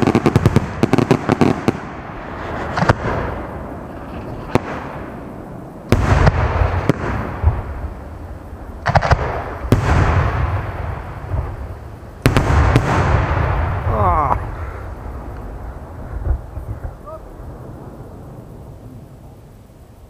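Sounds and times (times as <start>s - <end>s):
low rumble: 2.0s - 20.0s.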